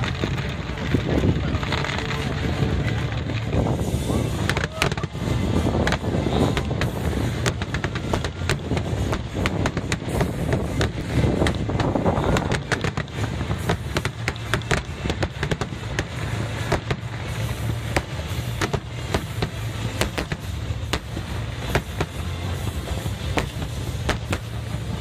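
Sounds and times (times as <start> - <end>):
fireworks bangs and crackling: 0.0 - 25.0
low rumble: 0.0 - 25.0.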